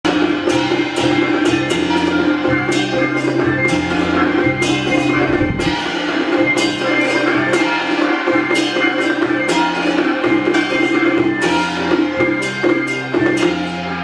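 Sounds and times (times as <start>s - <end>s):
sharp percussion strikes: 0.0s - 14.0s.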